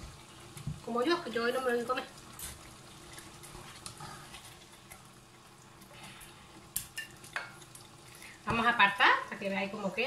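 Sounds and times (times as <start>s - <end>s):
sauce bubbling in a pan: 0.0s - 10.0s.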